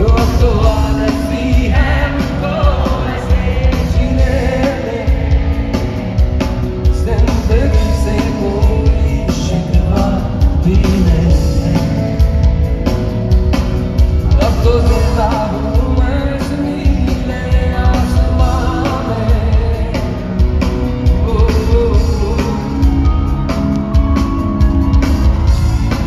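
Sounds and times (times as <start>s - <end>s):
man singing: 0.0s - 12.5s, 14.2s - 23.6s
drum kit: 0.0s - 26.0s.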